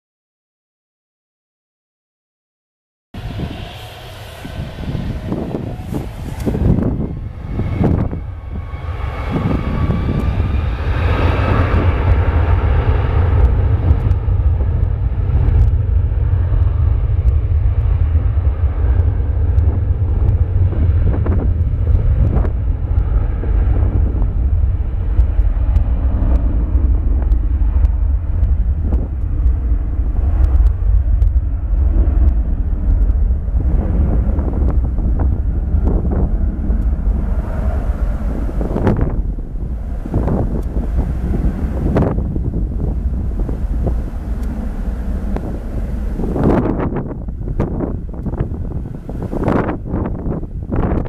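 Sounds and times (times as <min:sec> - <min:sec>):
jet engines spooling up: 0:03.2 - 0:51.0.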